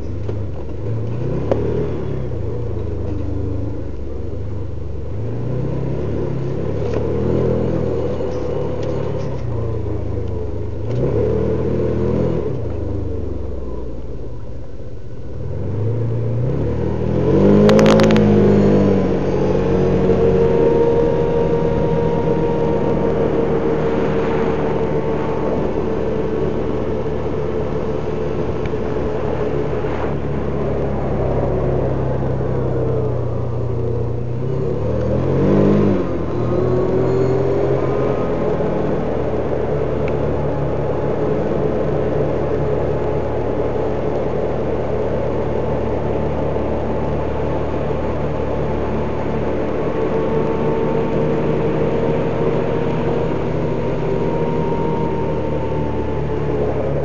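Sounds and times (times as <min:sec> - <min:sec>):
utility vehicle engine running: 0:00.0 - 0:57.0.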